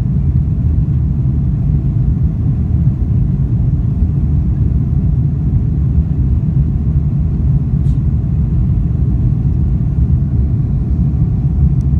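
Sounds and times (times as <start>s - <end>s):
airplane cabin engine rumble: 0.0s - 11.9s.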